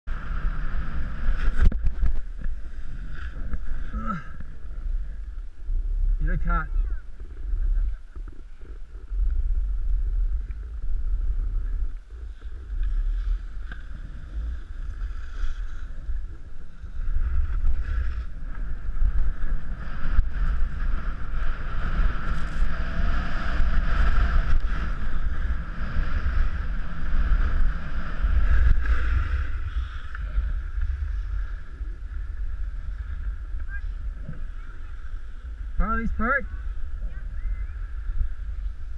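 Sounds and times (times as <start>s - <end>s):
wind buffeting microphone: 0.1s - 38.9s
skis sliding on packed snow: 0.4s - 4.2s, 7.2s - 22.8s, 23.6s - 35.6s.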